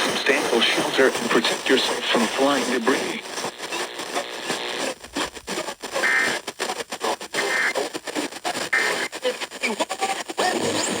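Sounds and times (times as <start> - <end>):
choppy radio audio: 0.0 - 11.0.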